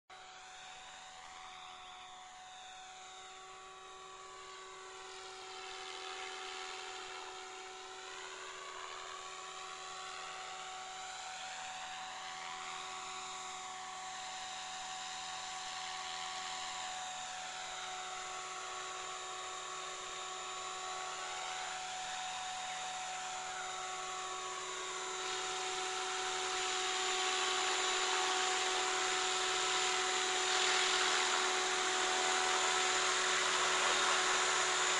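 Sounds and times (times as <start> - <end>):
rc helicopter whine: 0.1 - 34.9.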